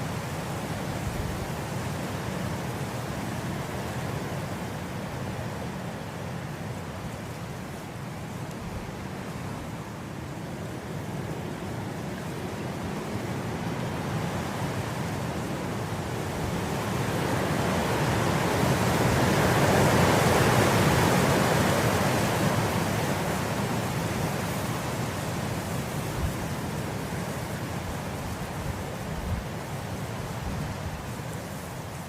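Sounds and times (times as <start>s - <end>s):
wind blowing through grass: 0.0s - 32.0s.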